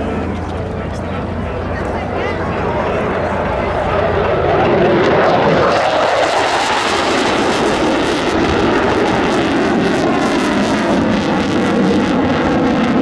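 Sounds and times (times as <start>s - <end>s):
jet roar flyby: 0.0s - 13.0s.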